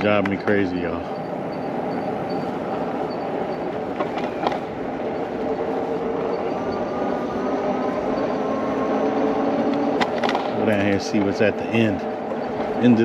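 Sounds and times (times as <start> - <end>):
wind and rolling noise: 0.0 - 13.0
bike squeak: 0.6 - 10.6, 11.7 - 13.0.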